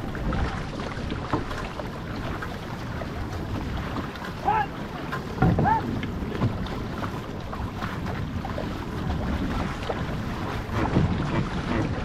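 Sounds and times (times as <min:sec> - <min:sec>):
paddles splashing: 0:00.0 - 0:12.0
water rushing along hull: 0:00.0 - 0:12.0
wind buffeting microphone: 0:00.0 - 0:12.0.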